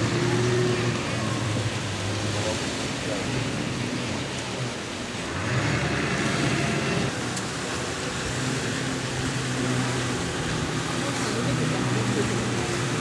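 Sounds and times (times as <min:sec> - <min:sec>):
jet ski and speedboat engines: 0:00.0 - 0:13.0.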